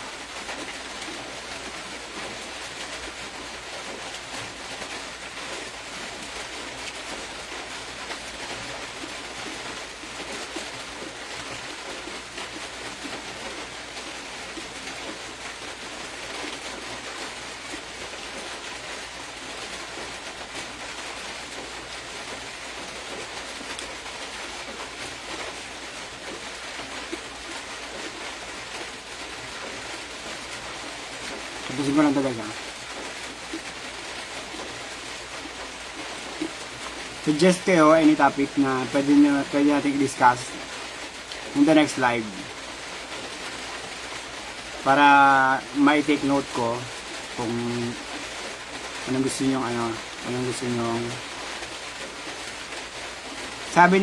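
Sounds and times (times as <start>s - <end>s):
crackling hiss: 0.0s - 54.0s.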